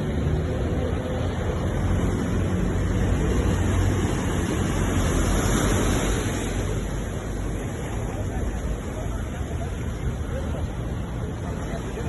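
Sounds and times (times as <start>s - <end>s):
ocean waves breaking on shore: 0.0s - 12.0s.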